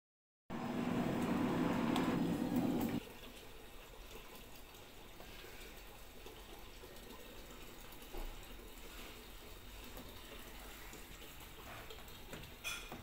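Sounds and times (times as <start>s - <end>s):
faint hiss of water: 0.5s - 13.0s
washing machine hum: 0.5s - 13.0s.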